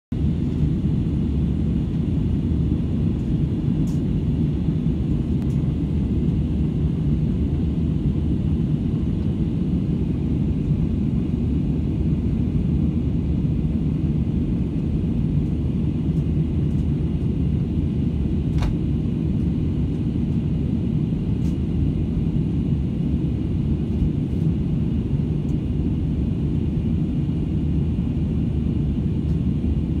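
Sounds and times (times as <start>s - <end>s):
airliner cabin rumble in flight: 0.1s - 30.0s.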